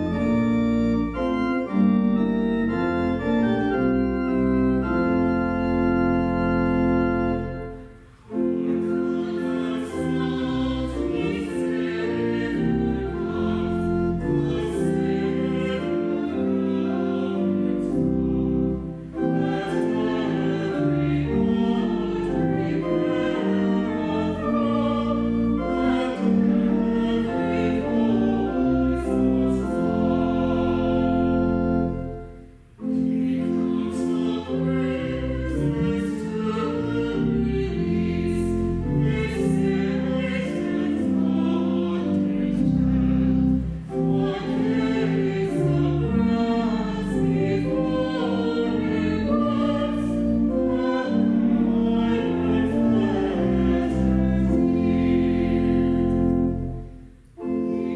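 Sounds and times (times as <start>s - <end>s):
pipe organ: 0.0s - 57.9s
group singing a hymn: 8.3s - 32.2s, 32.8s - 56.7s, 57.4s - 57.9s.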